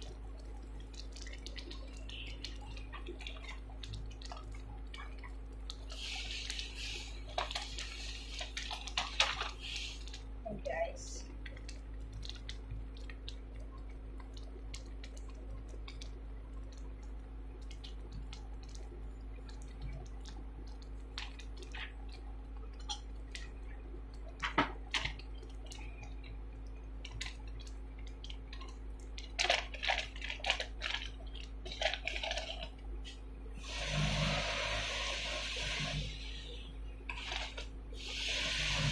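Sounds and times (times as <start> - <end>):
rice frying crackles and pops: 0.0 - 38.9
steady low hum: 0.0 - 38.9.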